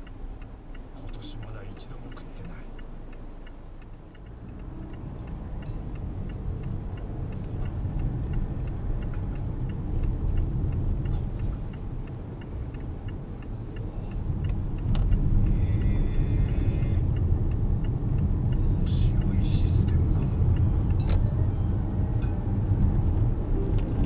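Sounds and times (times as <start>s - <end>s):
road and engine rumble: 0.0s - 24.0s
turn signal ticking: 0.0s - 24.0s.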